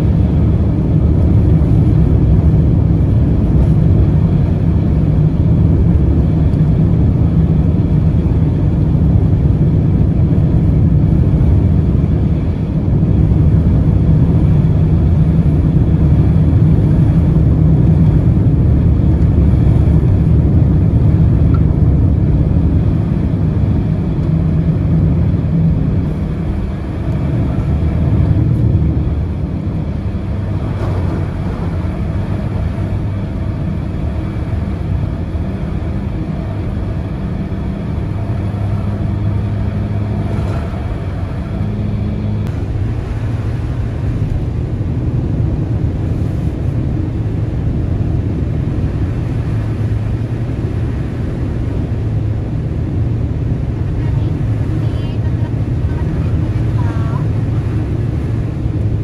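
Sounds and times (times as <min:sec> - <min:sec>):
vehicle engine and tyre rumble: 0:00.0 - 0:59.0.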